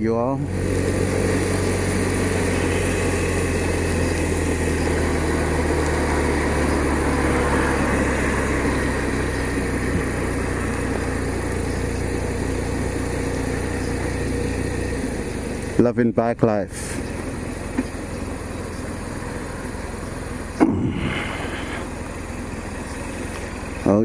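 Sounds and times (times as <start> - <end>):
motorcycle engine running: 0.0 - 24.0
road noise rush: 0.0 - 24.0.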